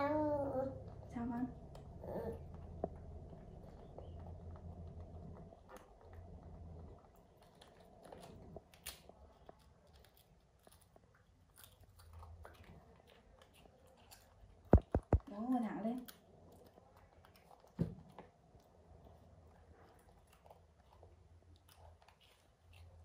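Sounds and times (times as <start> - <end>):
low steady hum: 0.0 - 23.0
faint chewing: 0.1 - 23.0
small clicks and crinkles: 0.7 - 23.0.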